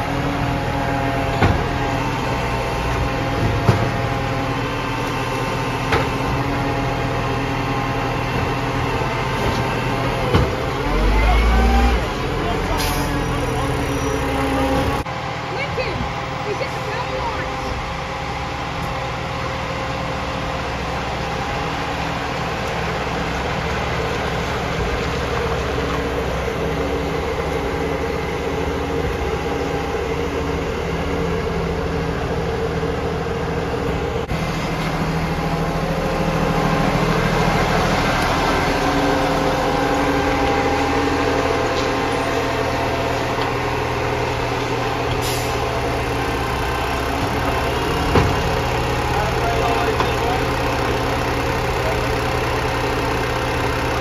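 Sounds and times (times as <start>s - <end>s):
garbage truck diesel engine: 0.0s - 54.0s.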